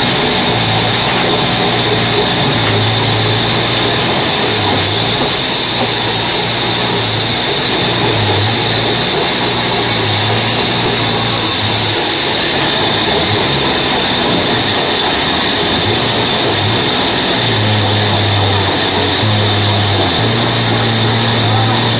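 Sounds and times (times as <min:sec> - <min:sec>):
band saw cutting log: 0:00.0 - 0:21.9.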